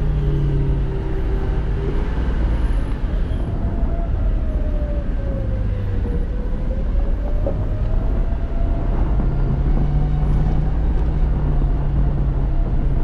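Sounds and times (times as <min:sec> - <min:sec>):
truck engine rumbling with whine: 0:00.0 - 0:13.0.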